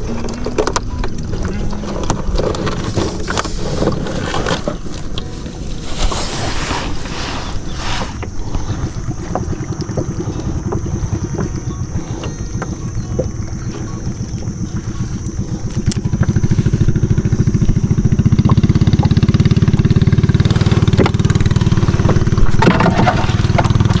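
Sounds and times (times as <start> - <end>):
small boat engine running: 0.0 - 24.0.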